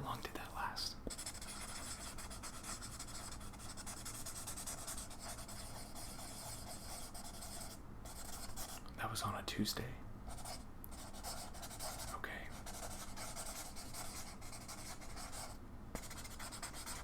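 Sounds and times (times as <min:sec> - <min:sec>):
pen scratching on paper: 0:01.1 - 0:08.8, 0:10.3 - 0:17.0.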